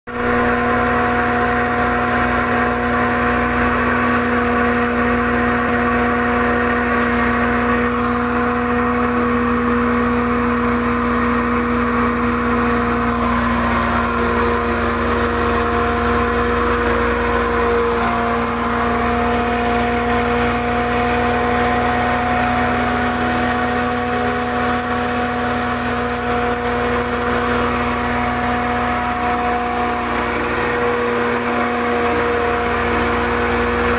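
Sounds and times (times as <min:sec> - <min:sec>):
spice grinder droning: 0:00.1 - 0:33.9.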